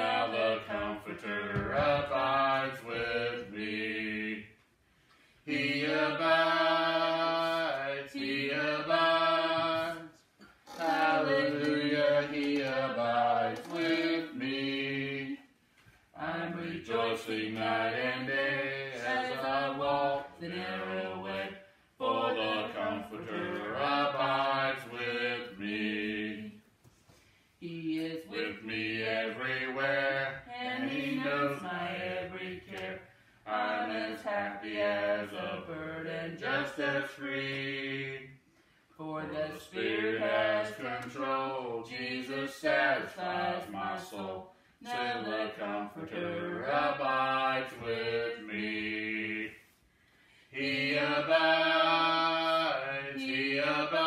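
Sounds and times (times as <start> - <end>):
person singing a hymn: 0.0 - 4.5, 5.5 - 15.5, 16.2 - 26.6, 27.6 - 38.4, 39.0 - 49.6, 50.5 - 54.0.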